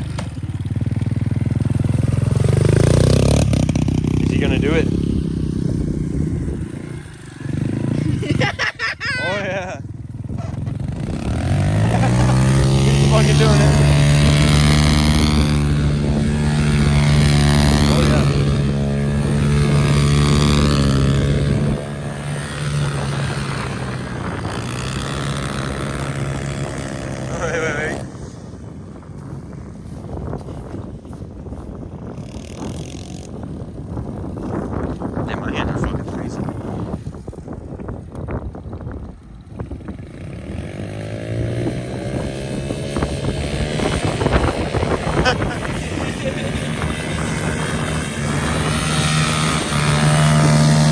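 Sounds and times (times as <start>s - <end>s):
motorbike engine running: 0.0s - 50.9s
wind buffeting microphone: 0.0s - 50.9s.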